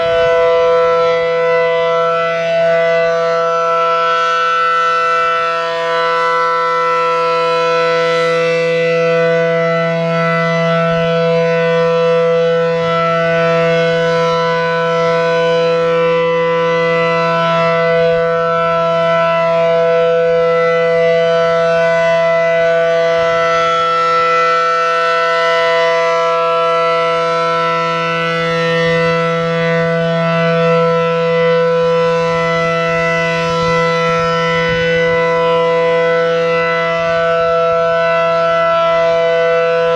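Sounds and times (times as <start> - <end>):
warning siren steady chord: 0.0 - 39.9.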